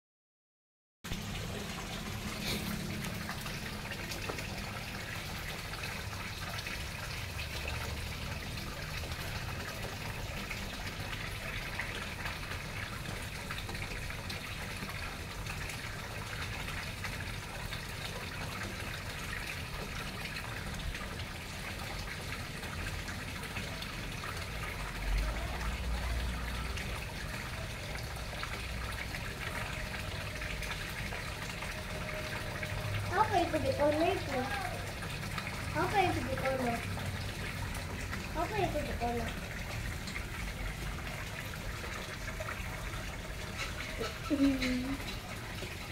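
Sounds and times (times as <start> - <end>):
waterfall splashing into pond: 1.1 - 45.9.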